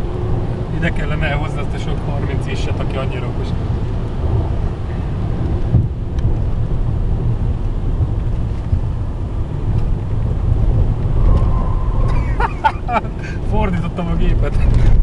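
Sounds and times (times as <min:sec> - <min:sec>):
diesel engine rumble: 0:00.0 - 0:15.0
tyre and road noise: 0:00.0 - 0:15.0.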